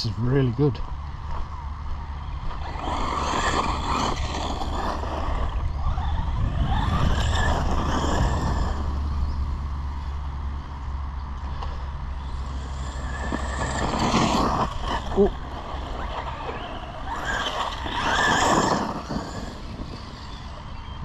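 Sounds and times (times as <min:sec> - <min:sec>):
electric motor whining: 0:01.9 - 0:21.0.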